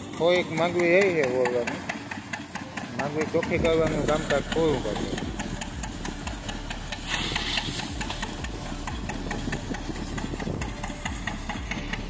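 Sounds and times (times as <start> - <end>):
machine mechanical clatter: 0.0 - 12.0.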